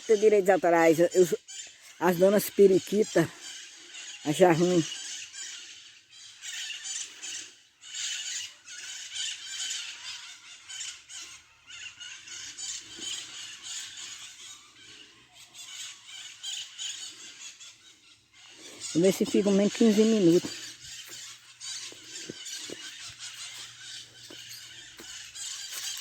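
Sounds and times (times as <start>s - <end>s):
parrots screeching: 3.3s - 26.0s.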